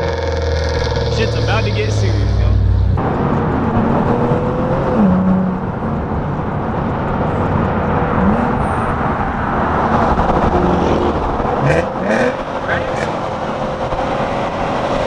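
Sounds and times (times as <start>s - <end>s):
car engines running: 0.0s - 15.0s.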